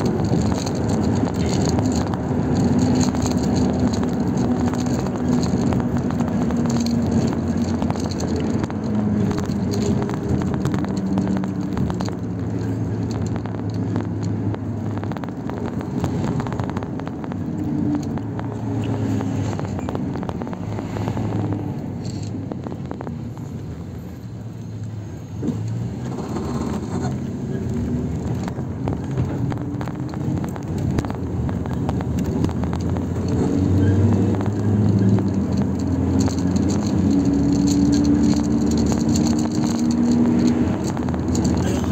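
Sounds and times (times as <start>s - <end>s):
car engine and road rumble: 0.0s - 41.9s.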